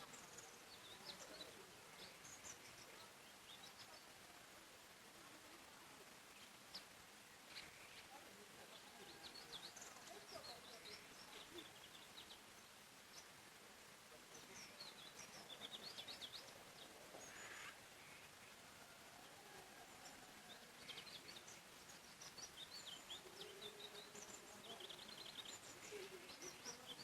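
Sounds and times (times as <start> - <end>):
soft background hiss: 0.0 - 27.0
songbirds chirping: 0.0 - 27.0.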